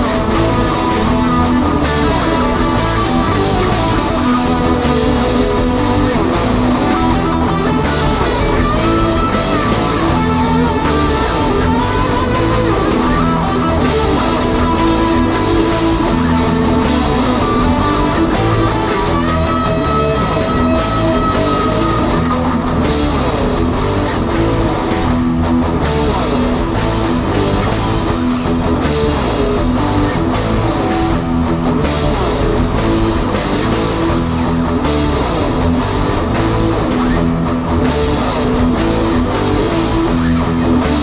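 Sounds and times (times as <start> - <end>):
rock music with electric guitars: 0.0 - 41.0.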